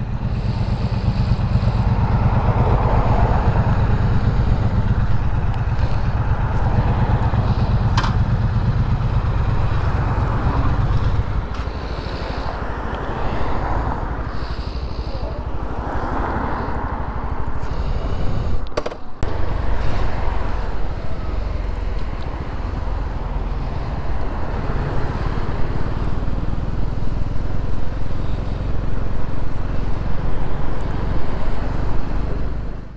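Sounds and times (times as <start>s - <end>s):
motorcycle engine running: 0.0s - 15.8s, 16.6s - 32.9s.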